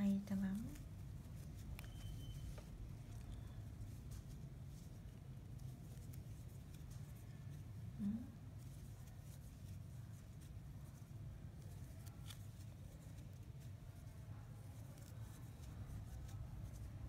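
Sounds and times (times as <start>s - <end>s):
crochet hook rustling yarn: 0.0s - 17.0s.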